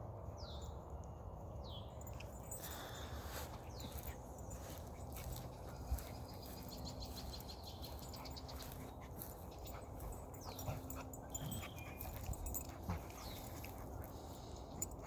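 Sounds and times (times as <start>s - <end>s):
dogs playing: 1.4s - 15.0s.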